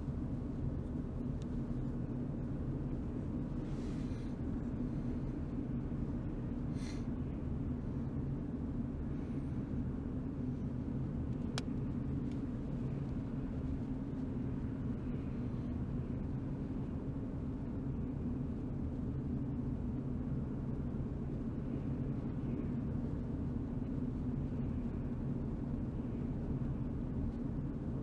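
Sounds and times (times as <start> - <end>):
car engine and road rumble: 0.0 - 24.4.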